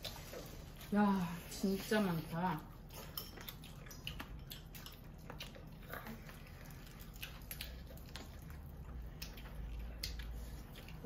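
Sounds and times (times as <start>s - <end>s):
people chewing chicken: 0.0s - 11.0s.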